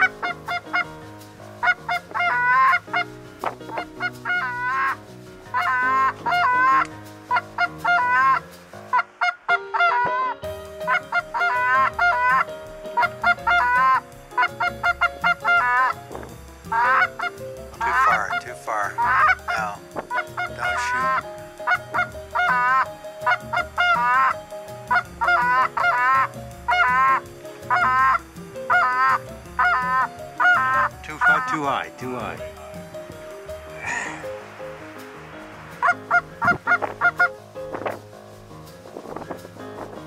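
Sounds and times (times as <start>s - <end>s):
geese honking: 0.0s - 34.6s, 35.4s - 38.0s.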